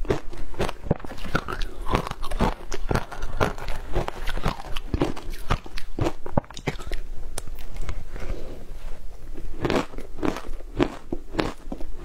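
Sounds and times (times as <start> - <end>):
ice being chewed: 0.0 - 8.0, 9.4 - 12.0.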